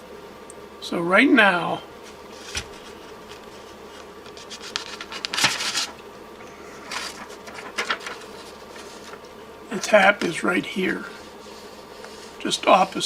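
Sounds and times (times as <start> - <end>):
low electrical hum: 0.0 - 13.0
rustling on a workbench: 1.9 - 13.0.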